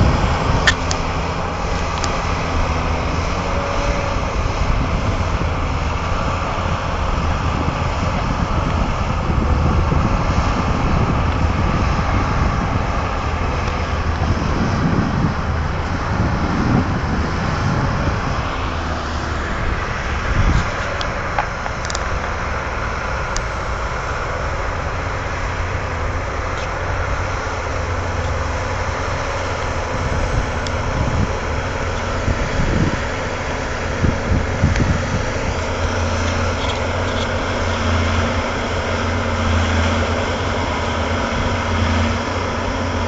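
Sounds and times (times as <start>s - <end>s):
tractor diesel engines running: 0.0s - 43.0s.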